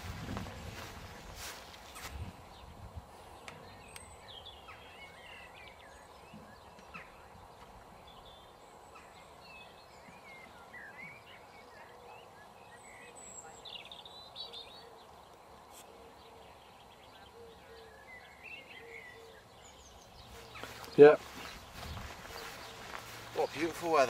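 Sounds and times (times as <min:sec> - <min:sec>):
outdoor background hiss: 0:00.0 - 0:24.0
small birds singing: 0:00.0 - 0:24.0.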